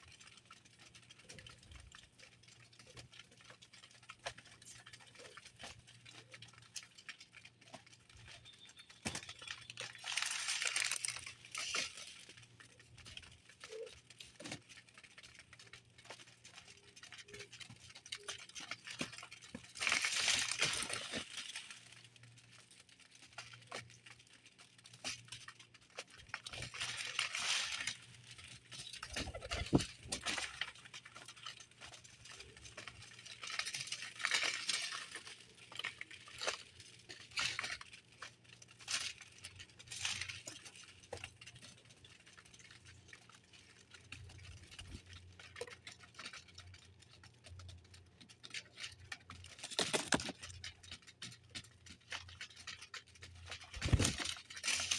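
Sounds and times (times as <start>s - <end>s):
birds rustling and fluttering: 0.0s - 54.9s.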